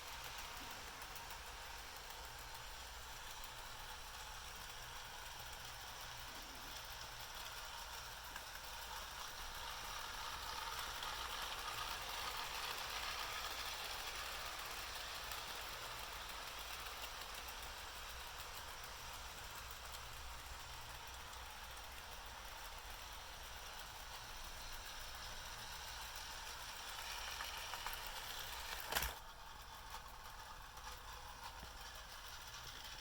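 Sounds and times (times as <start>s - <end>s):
model locomotive whirring on track: 0.0s - 33.0s.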